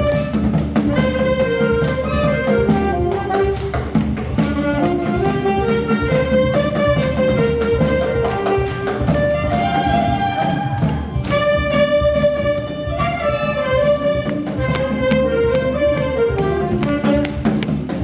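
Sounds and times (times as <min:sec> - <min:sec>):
drums and bass accompaniment: 0:00.0 - 0:18.0
saxophone slow melody: 0:00.0 - 0:18.0.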